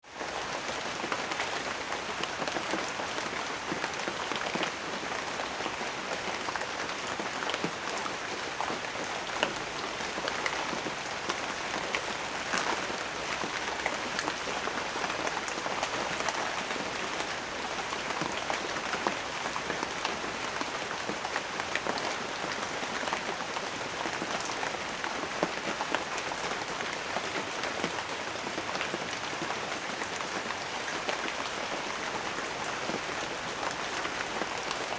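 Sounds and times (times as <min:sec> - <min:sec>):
rain drops pattering: 0:00.0 - 0:34.9.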